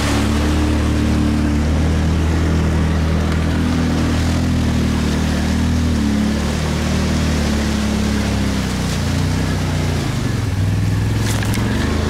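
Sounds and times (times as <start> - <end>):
atv engine running: 0.0 - 12.0
water splashing: 0.0 - 12.0.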